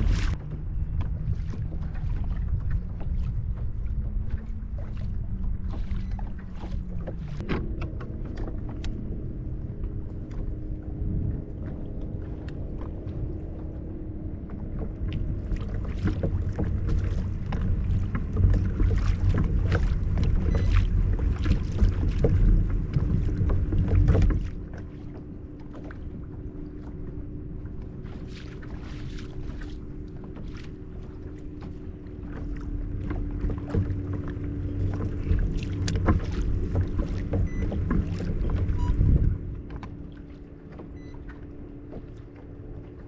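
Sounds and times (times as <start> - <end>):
motorboat engine droning: 0.0 - 43.0
water knocks and slaps: 0.0 - 43.0.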